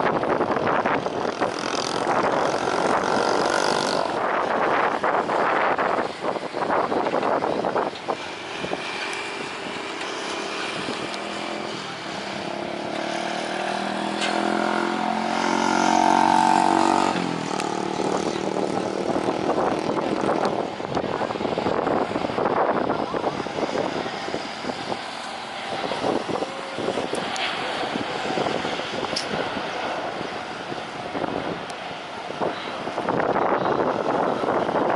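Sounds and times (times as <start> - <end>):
noisy background: 0.0 - 34.9
vehicle passing by: 0.0 - 34.9.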